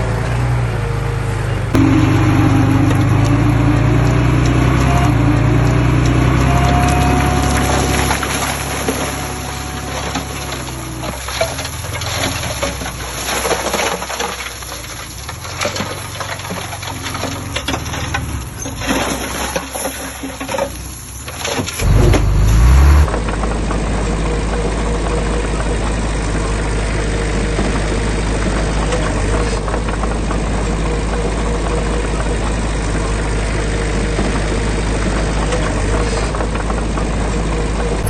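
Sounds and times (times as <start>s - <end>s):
diesel construction machine running: 0.0s - 38.0s.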